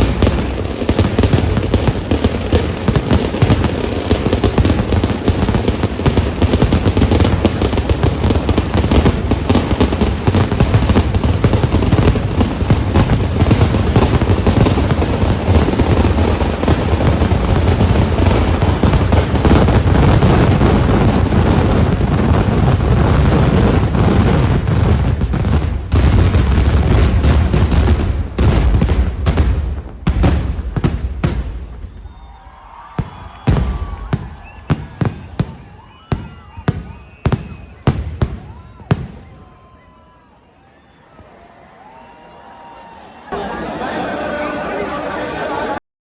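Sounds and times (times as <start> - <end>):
fireworks exploding: 0.0 - 44.0.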